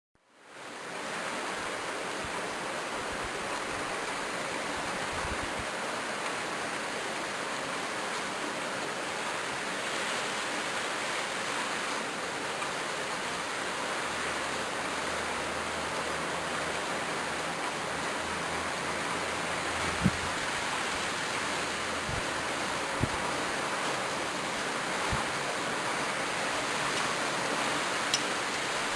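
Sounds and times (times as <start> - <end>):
rain falling steadily: 0.2 - 28.9.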